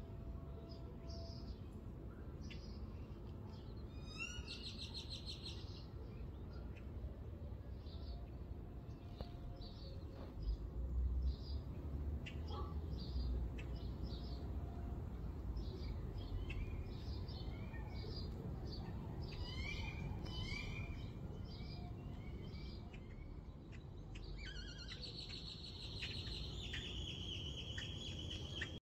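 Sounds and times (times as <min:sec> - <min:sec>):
songbirds chirping: 0:00.0 - 0:28.8.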